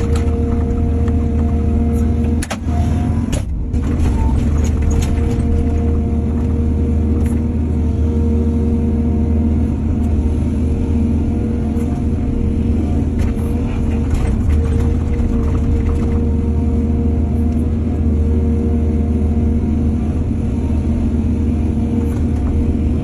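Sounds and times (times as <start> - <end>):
excavator engine rumbling: 0.0 - 23.0.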